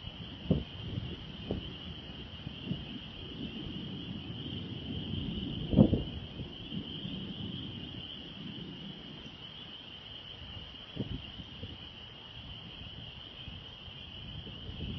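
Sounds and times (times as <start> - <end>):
wind gusting against microphone: 0.0 - 14.9.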